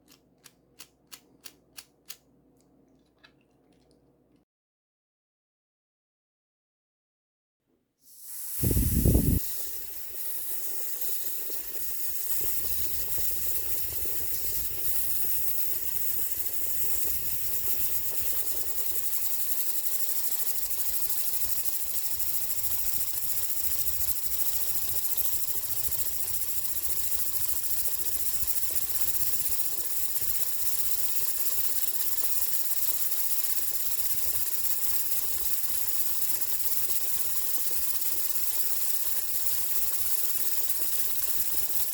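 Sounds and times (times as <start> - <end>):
small air engine hissing and pulsing: 8.1 - 41.9.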